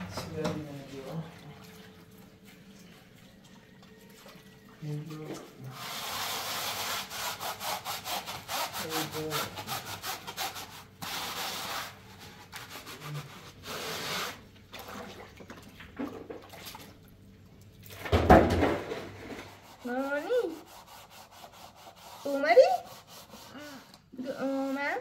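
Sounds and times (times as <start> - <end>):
scouring pad scrubbing plastic bowl: 0.0 - 15.5, 19.0 - 25.0.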